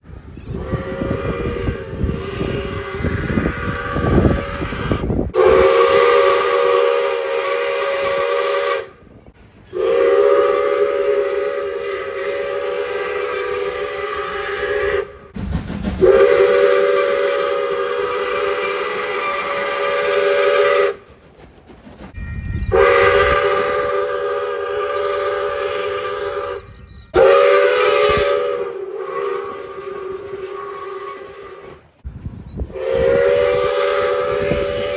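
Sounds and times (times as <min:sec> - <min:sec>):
train whistle blasts: 0:00.5 - 0:15.4, 0:16.0 - 0:21.1, 0:22.2 - 0:31.9, 0:32.7 - 0:34.9.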